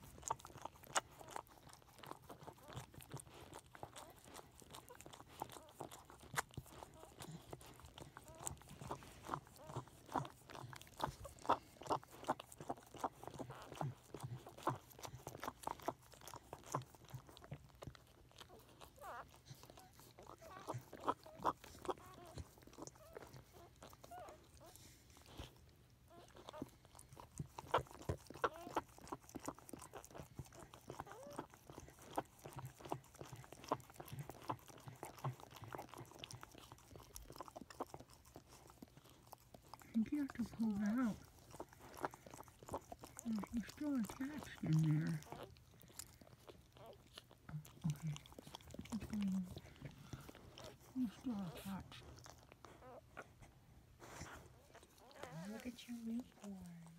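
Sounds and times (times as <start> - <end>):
dog licking wet smacks: 0.0 - 53.2.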